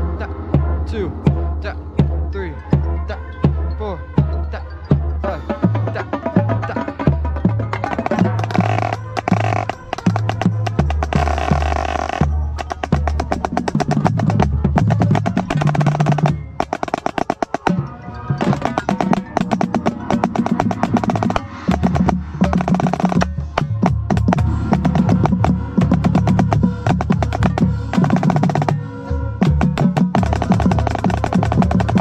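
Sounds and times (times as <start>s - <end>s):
marching snare drum rolls: 0.0s - 3.6s, 5.7s - 17.8s, 18.4s - 28.8s, 29.4s - 32.0s
band playing low chords: 0.0s - 32.0s.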